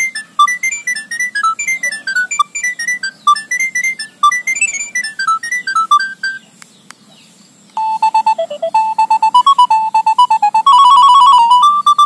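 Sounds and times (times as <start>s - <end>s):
electronic ringtone beeping tune: 0.0s - 6.4s, 7.8s - 12.0s.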